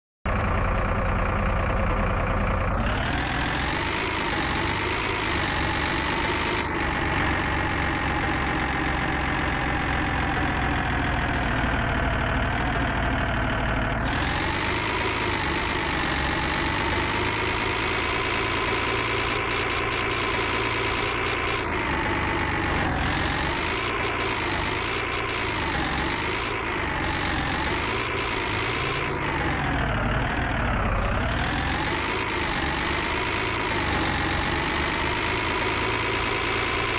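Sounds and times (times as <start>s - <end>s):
engine idling: 0.3s - 36.9s.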